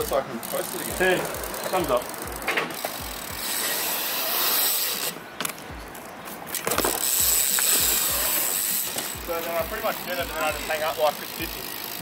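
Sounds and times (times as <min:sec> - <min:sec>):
bike clicking and rattling: 0:00.0 - 0:12.0
bike tyres rolling on concrete: 0:00.0 - 0:12.0.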